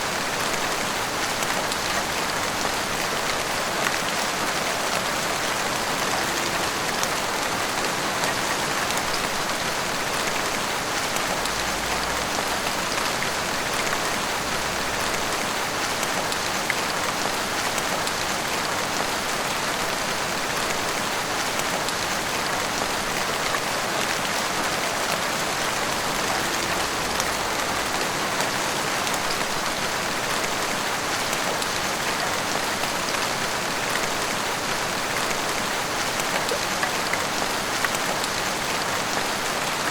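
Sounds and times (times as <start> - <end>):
heavy rain on roofs and street: 0.0 - 39.9.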